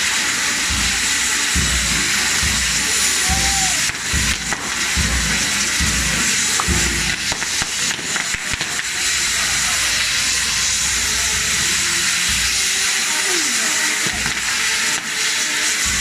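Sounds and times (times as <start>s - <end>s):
fireworks crackling and popping: 0.0s - 16.0s
fireworks hissing: 0.0s - 16.0s.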